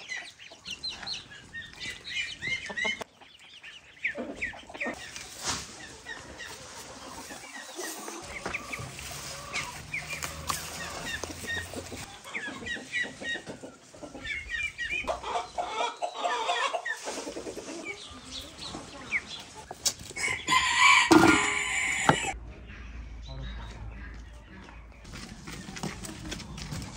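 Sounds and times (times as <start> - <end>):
chickens clucking: 0.0 - 26.9.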